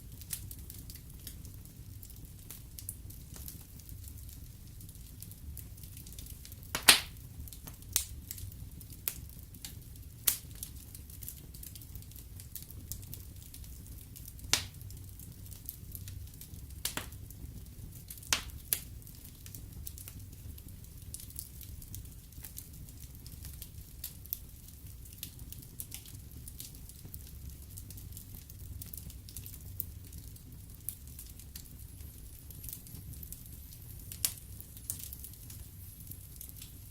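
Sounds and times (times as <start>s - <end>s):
fire burning with low rumble: 0.0s - 36.9s
fire crackling and popping: 0.0s - 36.9s.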